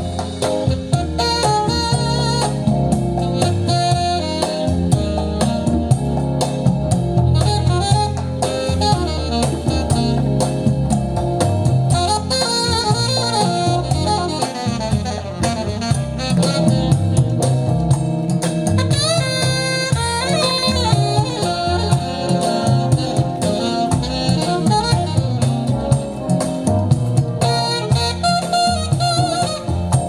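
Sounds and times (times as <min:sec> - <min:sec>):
jazz through loudspeakers: 0:00.0 - 0:30.0.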